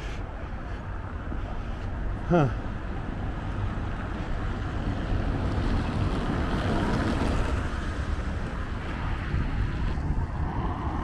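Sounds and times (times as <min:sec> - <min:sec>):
street noise: 0:00.0 - 0:11.0
wind rumbling on microphone: 0:00.0 - 0:11.0.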